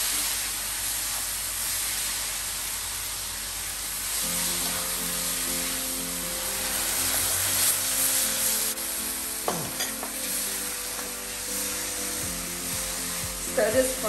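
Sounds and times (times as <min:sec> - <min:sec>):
noodles sizzling in a frying pan: 0:00.0 - 0:14.0.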